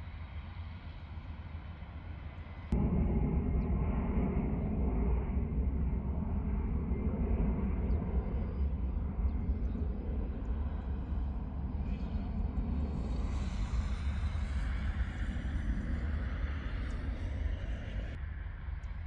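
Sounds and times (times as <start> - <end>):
distant jet engines rumbling: 0.6 - 19.0.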